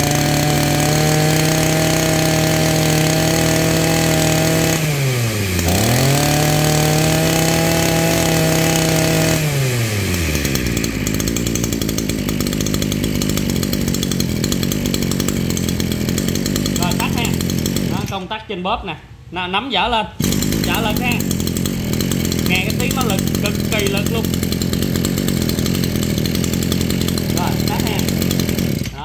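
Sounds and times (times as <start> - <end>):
brush cutter engine revving: 0.0 - 18.4, 20.2 - 29.0.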